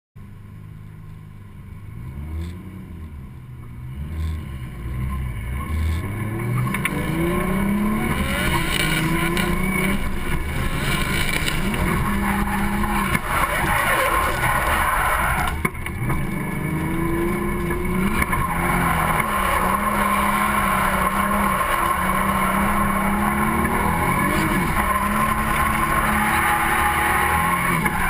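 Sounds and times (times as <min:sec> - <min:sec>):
car engine revving: 0:00.7 - 0:28.0.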